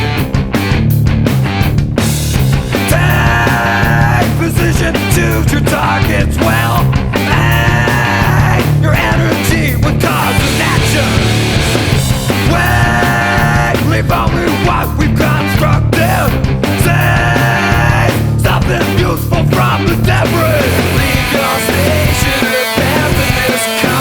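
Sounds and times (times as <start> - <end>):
loud rock music: 0.0 - 24.0.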